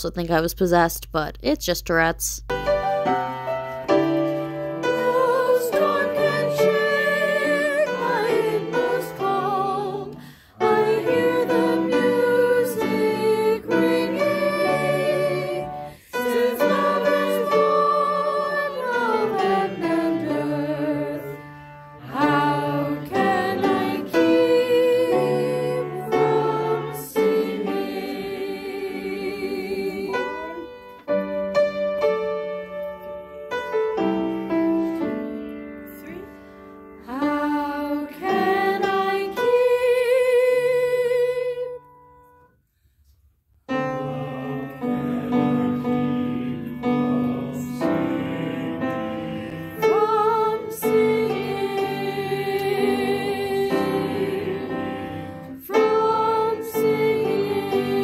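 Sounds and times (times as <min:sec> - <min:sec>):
piano accompaniment: 0:02.5 - 0:40.8, 0:43.7 - 0:58.0
choir singing a hymn: 0:03.0 - 0:32.6, 0:37.0 - 0:41.9, 0:43.7 - 0:58.0.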